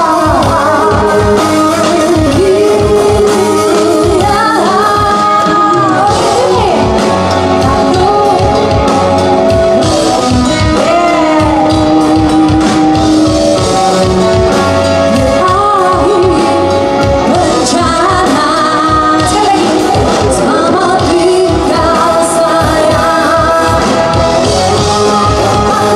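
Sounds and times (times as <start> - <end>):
woman singing: 0.0 - 14.3, 15.1 - 25.9
rock band playing live: 0.0 - 25.9.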